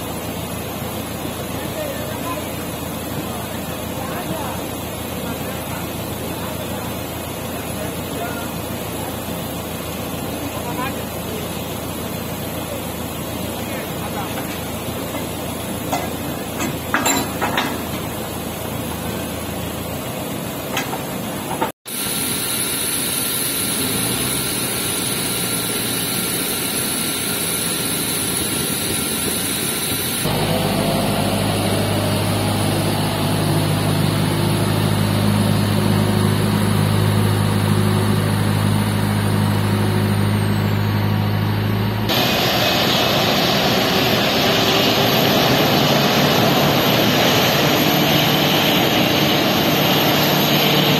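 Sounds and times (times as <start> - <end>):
jet engines rumbling and hissing: 0.0 - 50.9.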